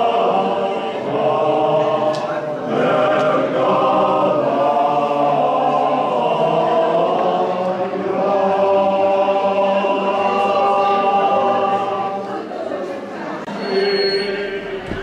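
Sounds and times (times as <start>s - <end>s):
men's choir singing: 0.0s - 12.7s, 13.4s - 15.0s.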